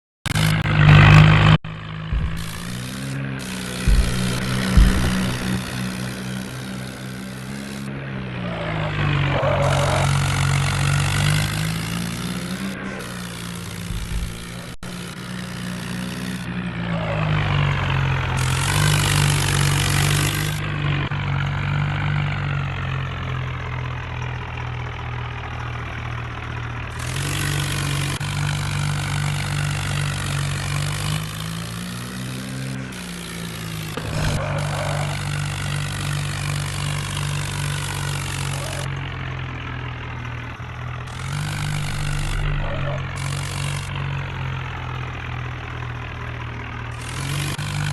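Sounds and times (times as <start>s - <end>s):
tractor diesel engine running: 0.3s - 47.9s.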